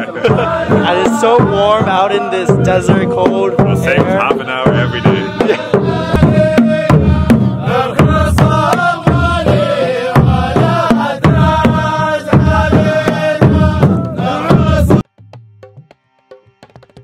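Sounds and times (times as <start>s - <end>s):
men chanting in unison: 0.0s - 15.0s
drum beat: 0.0s - 17.0s.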